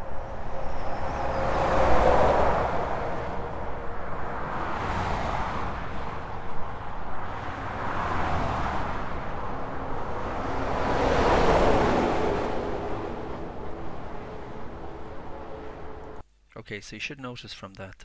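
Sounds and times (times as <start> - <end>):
motorway traffic noise: 0.0 - 16.2
vehicles passing by: 0.0 - 16.2.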